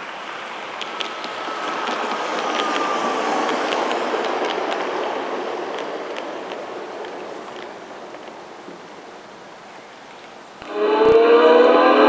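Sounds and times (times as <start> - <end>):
wheels clicking over rail joints: 0.0 - 10.7
model train rolling: 0.0 - 11.0.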